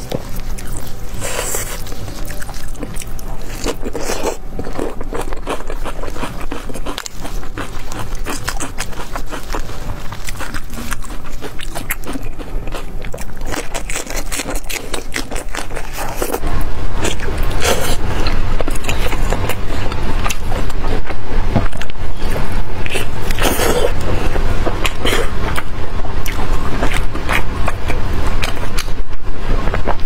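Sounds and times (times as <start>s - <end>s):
biting and chewing: 0.0s - 30.0s.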